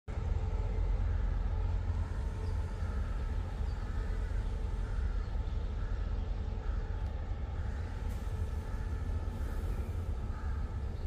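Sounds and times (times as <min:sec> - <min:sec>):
locomotive rumbling and humming: 0:00.1 - 0:11.0.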